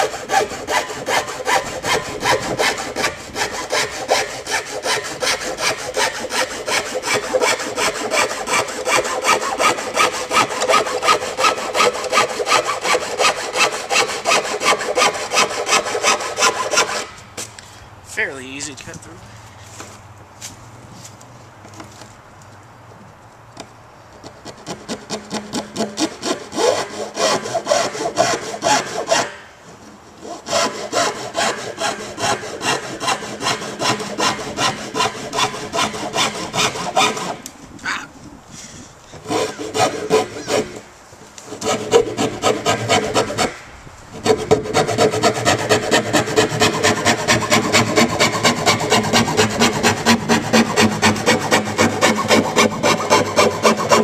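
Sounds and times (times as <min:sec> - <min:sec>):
hacksaw sawing plastic: 0:00.0 - 0:17.2, 0:24.1 - 0:37.5, 0:39.1 - 0:54.0.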